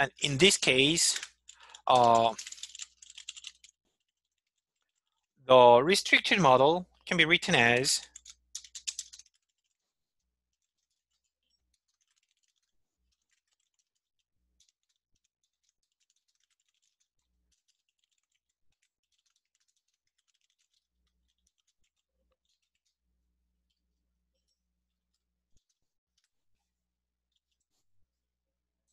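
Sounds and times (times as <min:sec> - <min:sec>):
faint computer keyboard typing: 0:00.0 - 0:05.3, 0:06.0 - 0:26.7.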